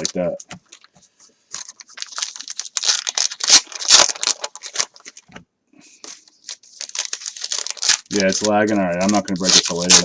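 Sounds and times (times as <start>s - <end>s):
plastic wrapping crinkling: 0.0s - 5.3s, 5.9s - 10.0s.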